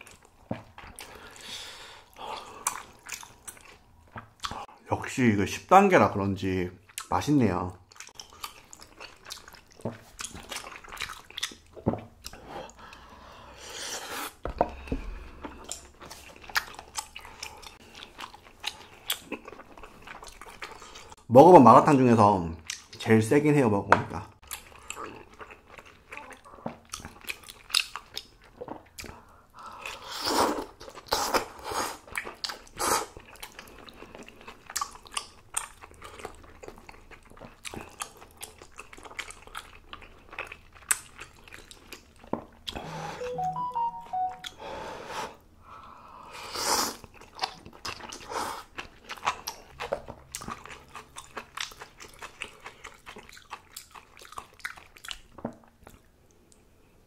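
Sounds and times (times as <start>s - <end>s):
wet chewing and smacking: 0.0s - 4.7s, 6.8s - 7.2s, 7.8s - 13.2s, 14.3s - 21.2s, 22.6s - 23.0s, 24.4s - 42.8s, 47.0s - 56.7s.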